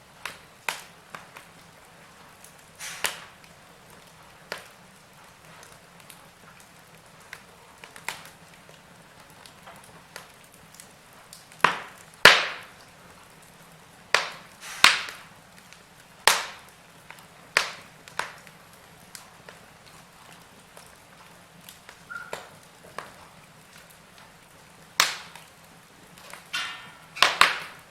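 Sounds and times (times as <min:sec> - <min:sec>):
faint steady hiss: 0:00.0 - 0:27.9
wood fire crackling: 0:00.0 - 0:27.9.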